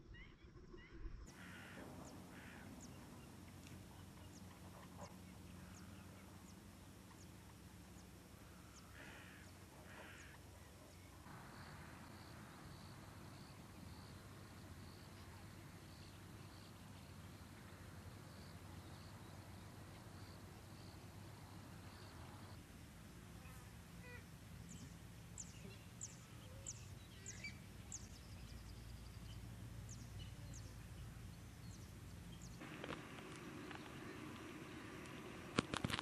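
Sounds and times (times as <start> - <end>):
low steady hum: 0.0 - 36.0
wild birds calling: 0.1 - 22.6, 23.4 - 36.0.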